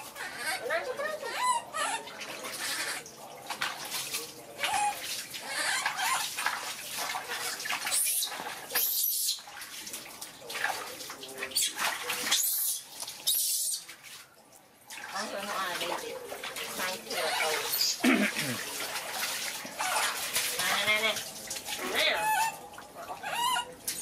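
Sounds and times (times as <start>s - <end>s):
water splashing in a metal basin: 0.0s - 24.0s.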